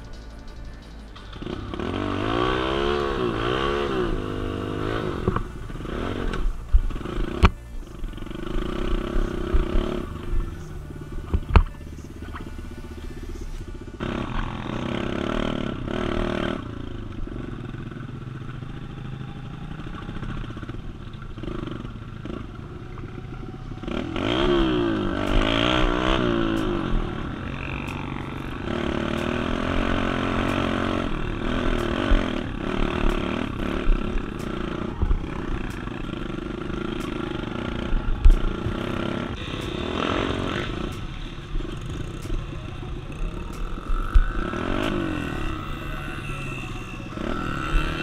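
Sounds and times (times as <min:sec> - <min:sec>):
engine running: 0:00.0 - 0:48.0.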